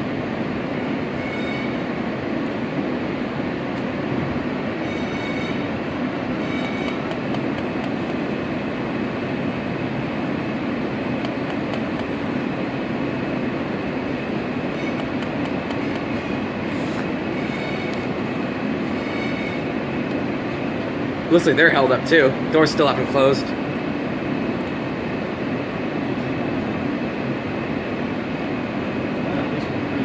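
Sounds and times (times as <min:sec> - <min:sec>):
subway car rumble: 0:00.0 - 0:30.0.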